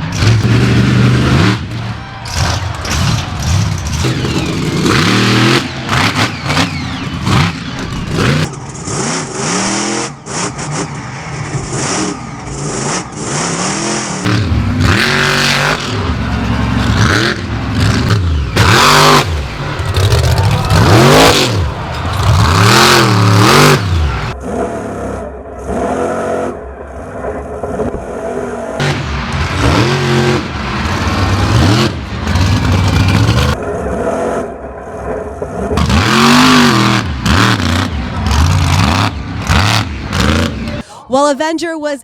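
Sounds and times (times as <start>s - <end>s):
monster truck engines revving: 0.0s - 41.2s.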